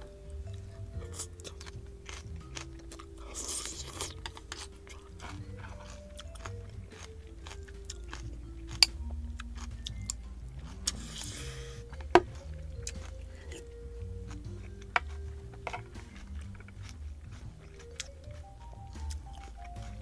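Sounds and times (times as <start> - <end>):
person chewing food: 0.0 - 20.0
quiet background music: 0.0 - 20.0.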